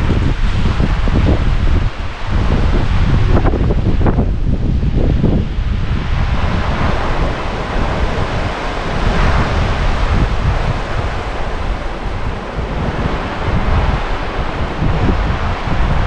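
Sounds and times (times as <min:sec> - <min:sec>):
surf waves breaking on sand: 0:00.0 - 0:16.0
wind buffeting microphone: 0:00.0 - 0:16.0.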